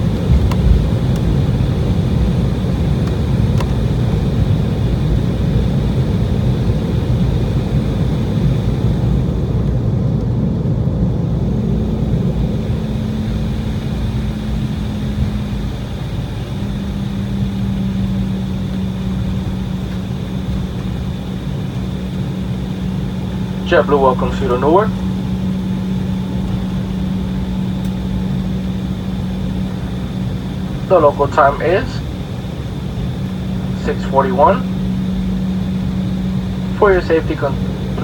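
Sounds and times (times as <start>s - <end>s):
aircraft engines rumbling: 0.0s - 38.0s
steady hum: 0.0s - 38.0s.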